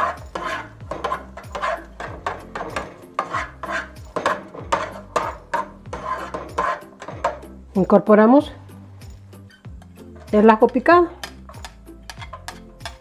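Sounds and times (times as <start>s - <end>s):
spatula scraping onion in pan: 0.0s - 7.7s, 9.2s - 13.0s
background music with steady beat: 0.0s - 13.0s.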